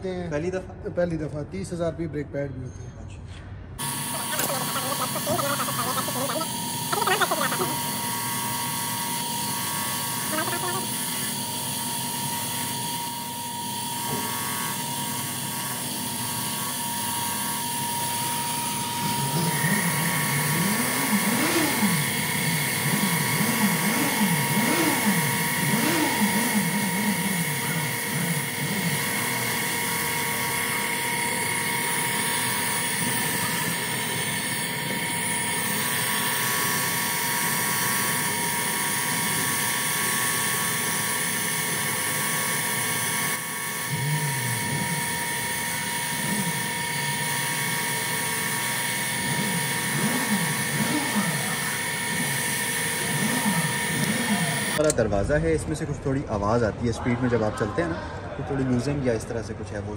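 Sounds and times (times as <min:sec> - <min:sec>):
bench grinder whining: 0:03.8 - 0:55.0.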